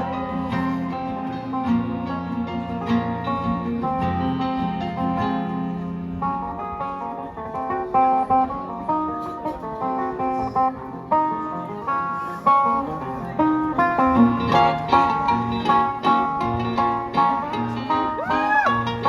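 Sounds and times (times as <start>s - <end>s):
guitar picking melody: 0.0s - 19.0s
live band playing: 0.0s - 19.0s.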